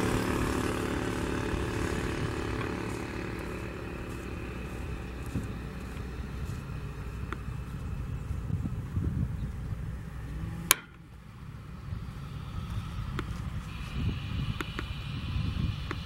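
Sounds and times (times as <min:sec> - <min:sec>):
jet engines rumbling and whining: 0:00.0 - 0:16.0.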